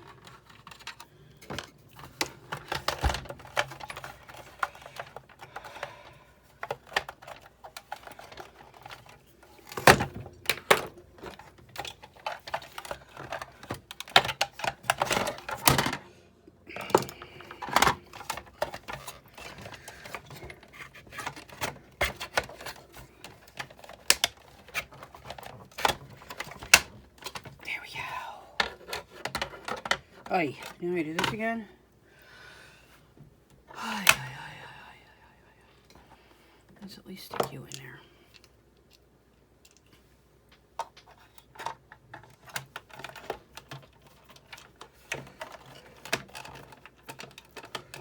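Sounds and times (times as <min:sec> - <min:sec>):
plastic and metal parts clattering: 0:00.0 - 0:27.6, 0:28.6 - 0:31.7, 0:39.6 - 0:48.0.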